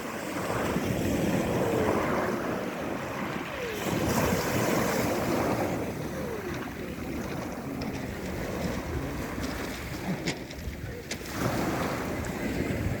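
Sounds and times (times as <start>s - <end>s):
sea surf on pebble beach: 0.0s - 13.0s
wind buffeting microphone: 0.0s - 13.0s.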